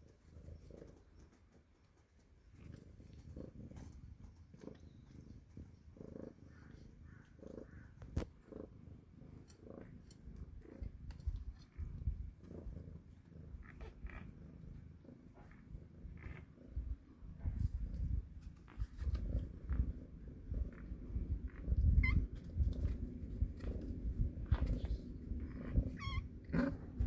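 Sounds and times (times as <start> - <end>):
cat purring: 0.0 - 27.0.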